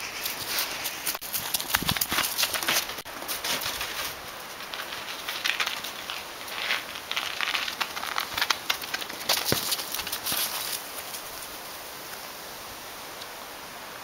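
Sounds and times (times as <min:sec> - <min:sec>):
dog paws scrabbling on wood: 0:00.1 - 0:11.6.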